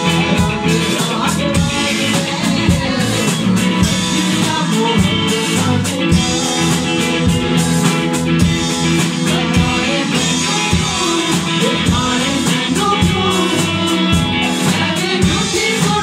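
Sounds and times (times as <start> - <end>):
man singing: 0.0 - 7.4, 8.8 - 16.0
drum kit: 0.0 - 16.0
electric guitars: 0.0 - 16.0.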